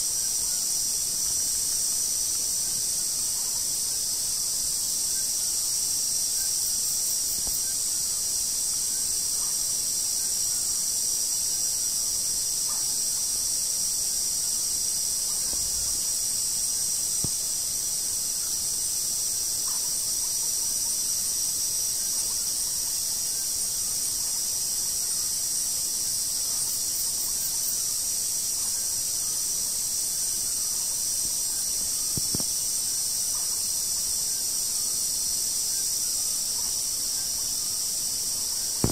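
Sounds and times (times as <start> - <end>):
crickets and night insects trilling: 0.0 - 38.9.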